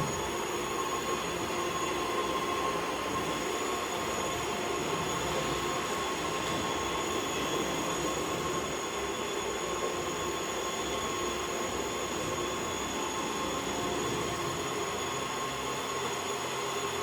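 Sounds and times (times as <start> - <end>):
wet floor cleaner humming: 0.0 - 17.0.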